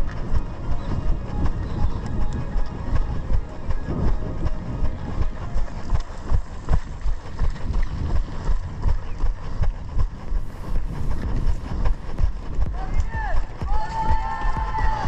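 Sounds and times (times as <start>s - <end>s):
running footsteps thudding: 0.0s - 15.0s
wind rumbling on microphone: 0.0s - 15.0s.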